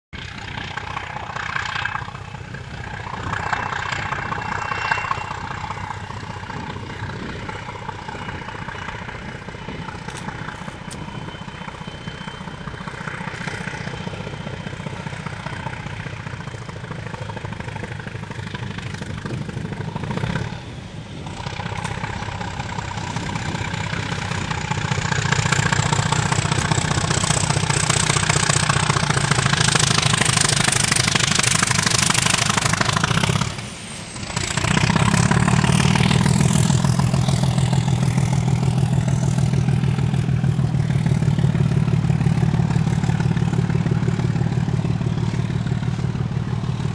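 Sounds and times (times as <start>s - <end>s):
diesel locomotive engine throbbing: 0.2s - 46.9s.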